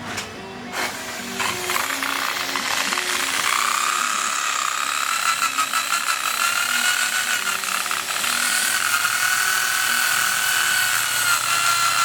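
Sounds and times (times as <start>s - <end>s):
power tool motor whine: 0.7s - 12.0s.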